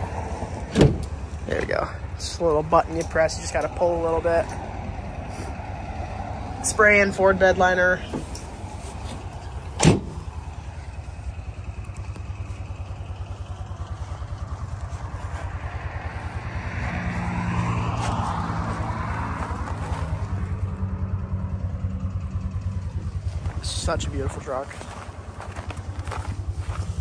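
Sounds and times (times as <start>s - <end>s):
diesel engine idling: 0.0s - 27.0s
passing vehicle: 0.0s - 27.0s.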